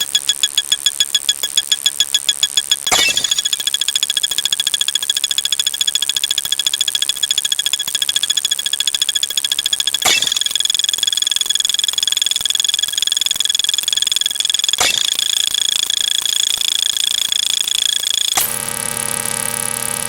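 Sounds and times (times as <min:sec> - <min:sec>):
click: 0:00.0 - 0:18.6
rapid high-pitched electronic beeps: 0:00.0 - 0:19.3.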